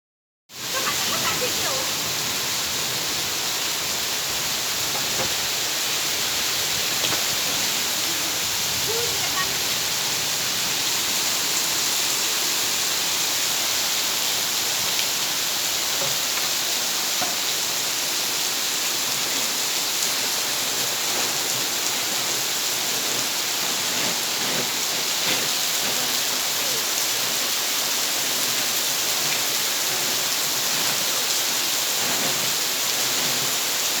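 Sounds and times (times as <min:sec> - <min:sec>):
heavy rain pouring: 0:00.5 - 0:34.0.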